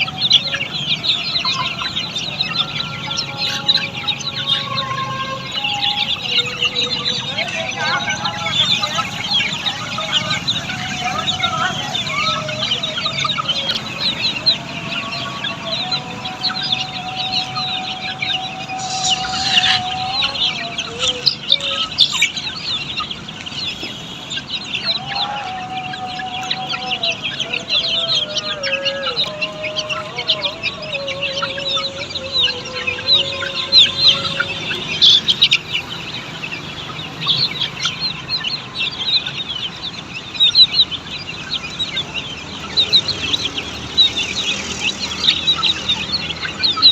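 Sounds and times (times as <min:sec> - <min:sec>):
chicks peeping: 0:00.0 - 0:46.9
long low drawn-out calls: 0:00.0 - 0:46.9.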